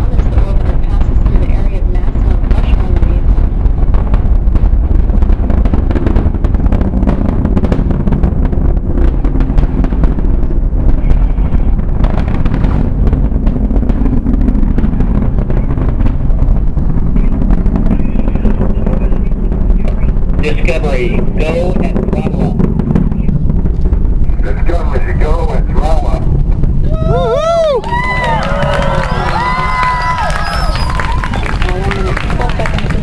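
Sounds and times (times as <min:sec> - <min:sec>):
rapid crackling: 0:00.0 - 0:33.0
rocket launch deep rumble: 0:00.0 - 0:33.0.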